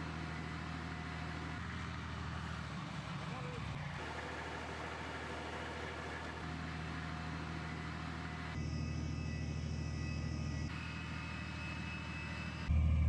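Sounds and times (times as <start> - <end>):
heavy diesel engine humming: 0.0 - 13.0.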